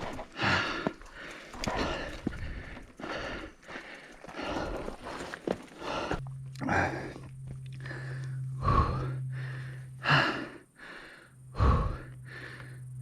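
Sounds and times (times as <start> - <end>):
person breathing heavily: 0.0 - 12.9
steady low hum: 0.0 - 13.0.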